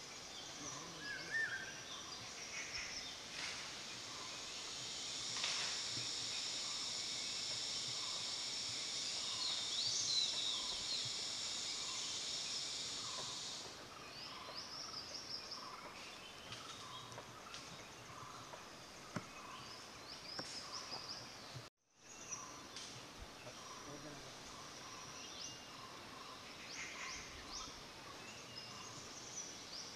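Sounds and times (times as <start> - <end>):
birds chirping: 0.0 - 29.9
insect drone: 0.0 - 29.9.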